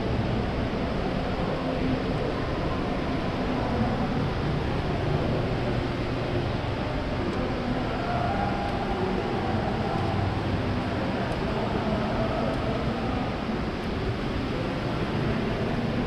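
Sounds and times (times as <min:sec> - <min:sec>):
constant even hiss: 0:00.0 - 0:16.0.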